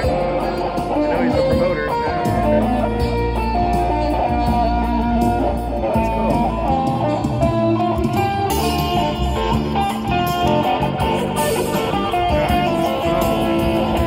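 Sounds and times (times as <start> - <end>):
electric guitar lead line: 0.0 - 14.0
low bass: 0.0 - 14.0.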